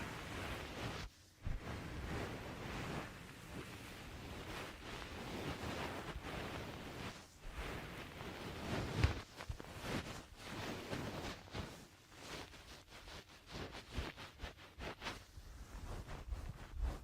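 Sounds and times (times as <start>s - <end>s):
towel rustling swishes: 0.0s - 17.0s.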